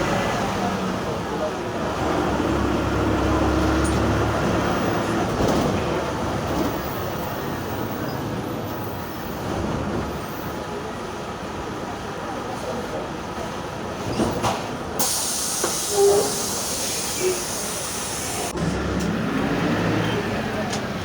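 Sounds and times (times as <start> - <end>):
bus engine and gearbox growl: 0.0 - 10.7, 14.0 - 21.0.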